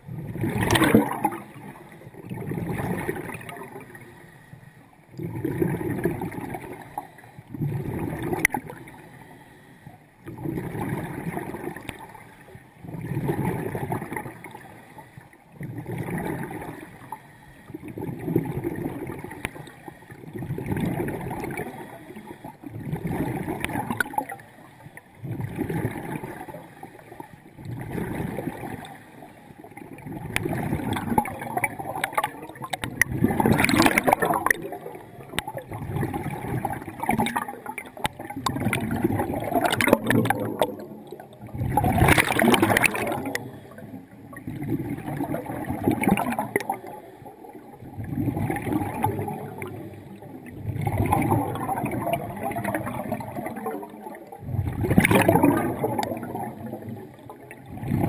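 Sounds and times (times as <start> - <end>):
bubbling and hiss: 0.0 - 58.0.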